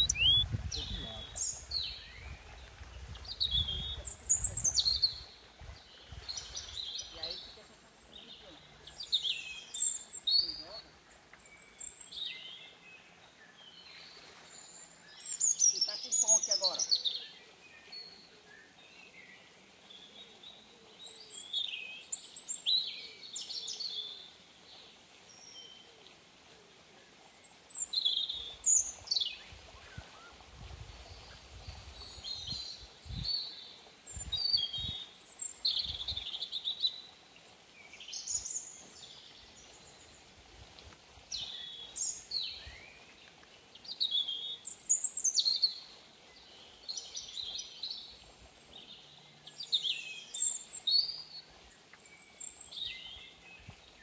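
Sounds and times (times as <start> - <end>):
forest birds chirping: 0.0 - 54.0.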